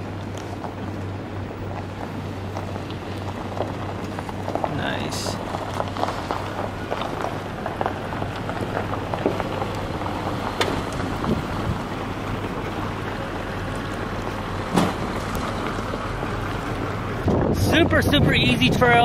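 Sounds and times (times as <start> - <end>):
low engine drone: 0.0 - 19.0
tyres crunching over gravel: 0.0 - 19.0.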